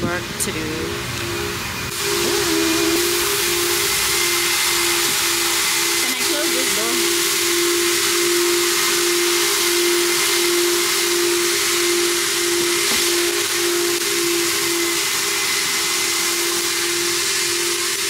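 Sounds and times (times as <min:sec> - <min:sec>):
car-wash machinery hissing: 0:00.0 - 0:18.0
steady hum: 0:00.0 - 0:18.0.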